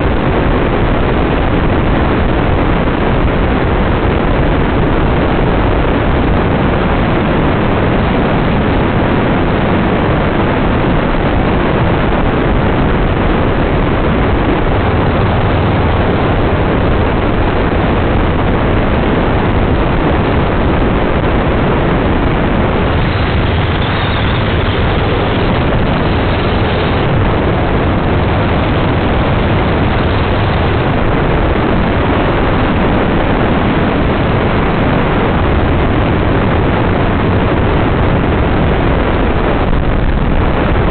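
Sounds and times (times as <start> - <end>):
buggy engine drone: 0.0 - 40.9
wind rush over microphone: 0.0 - 40.9.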